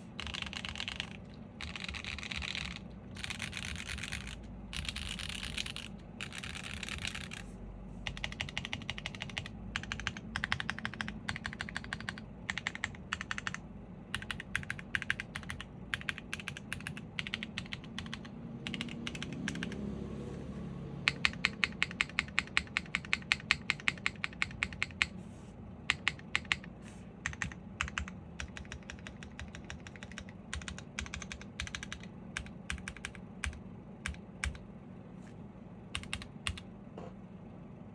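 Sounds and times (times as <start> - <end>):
mechanical keyboard typing: 0.2 - 19.9, 21.0 - 25.2, 25.9 - 34.7, 35.9 - 36.7.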